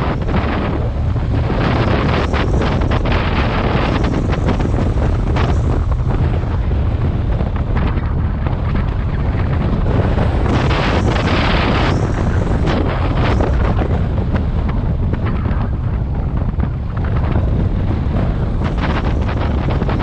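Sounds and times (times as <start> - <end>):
motorcycle engine: 0.0 - 20.0
road noise: 0.0 - 20.0
wind buffeting microphone: 0.0 - 20.0.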